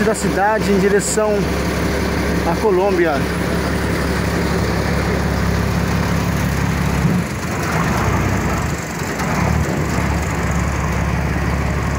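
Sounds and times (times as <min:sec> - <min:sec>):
speedboat engine droning: 0:00.0 - 0:11.9.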